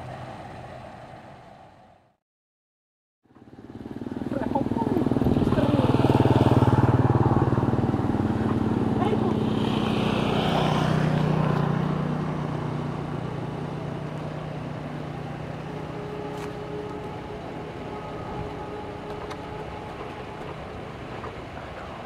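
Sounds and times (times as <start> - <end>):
passenger train engine drone: 3.4 - 22.0.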